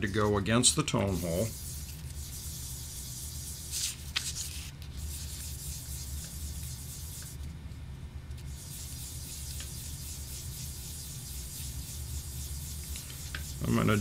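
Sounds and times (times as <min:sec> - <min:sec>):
pad rubbing on abrasive paper: 0:01.0 - 0:07.5, 0:08.4 - 0:14.0.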